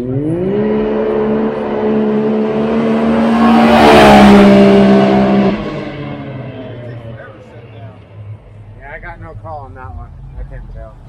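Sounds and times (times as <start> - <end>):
engine accelerating hard: 0.0 - 11.0.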